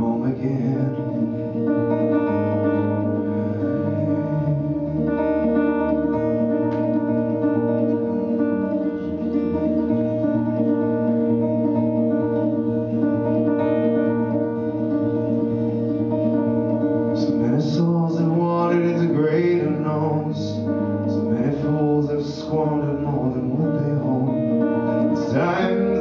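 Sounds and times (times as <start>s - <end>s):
guitar chords: 0.0s - 26.0s
low bass notes: 0.0s - 26.0s.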